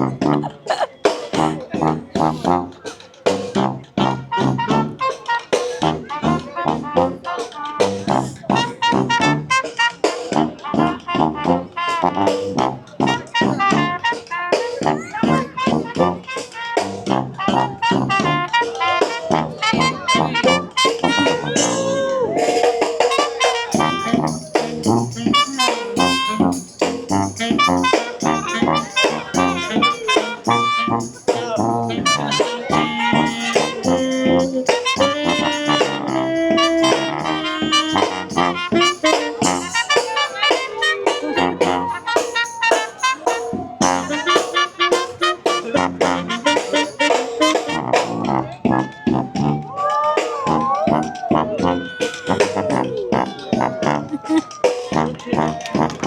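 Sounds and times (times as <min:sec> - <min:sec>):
brass band playing jazz: 0:00.0 - 0:56.0.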